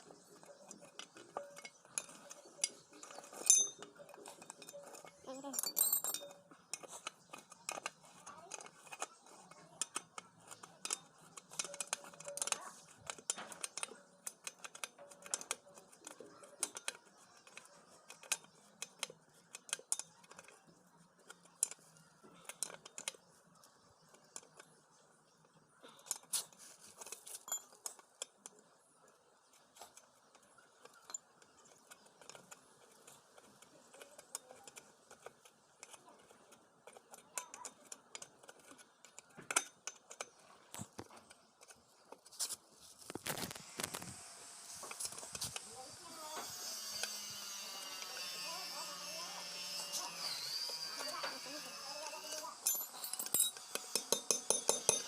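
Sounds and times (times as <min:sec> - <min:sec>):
light metal clicks and clinks: 0:00.0 - 0:42.5, 0:52.4 - 0:55.0.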